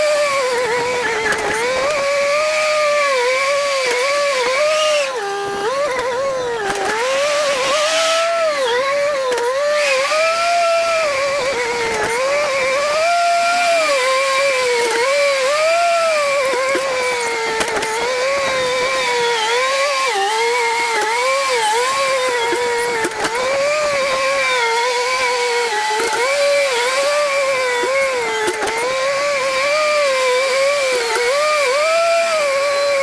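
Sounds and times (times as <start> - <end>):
engine-driven machine whining: 0.0 - 33.0.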